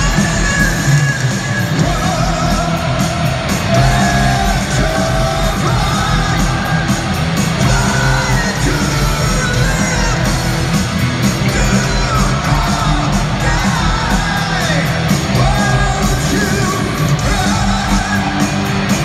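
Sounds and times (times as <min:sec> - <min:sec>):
heavy metal band playing: 0:00.0 - 0:19.0.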